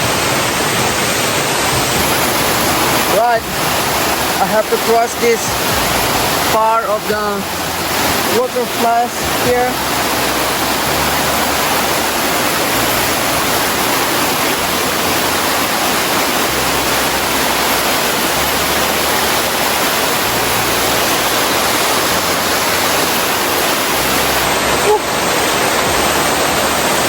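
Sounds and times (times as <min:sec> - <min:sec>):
water cascading over rocks: 0:00.0 - 0:27.0.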